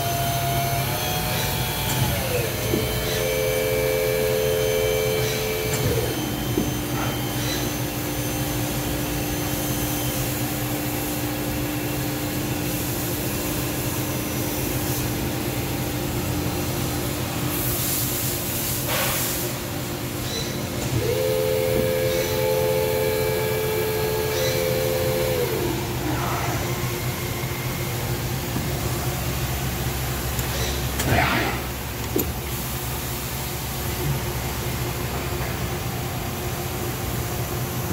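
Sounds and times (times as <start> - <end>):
lathe motor whine: 0.0 - 18.6, 19.5 - 37.9
machine hum and hiss: 0.0 - 37.9.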